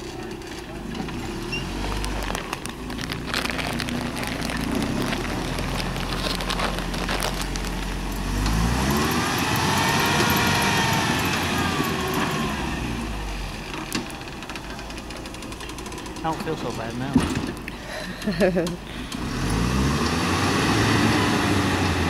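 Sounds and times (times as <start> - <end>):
pickup truck engine revving: 0.0 - 16.9, 17.6 - 22.0.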